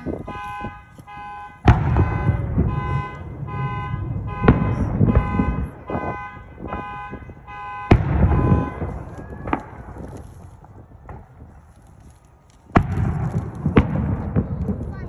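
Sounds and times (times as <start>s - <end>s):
fireworks bursting: 0.0s - 15.0s
rumbling booms: 1.5s - 11.6s, 12.7s - 15.0s.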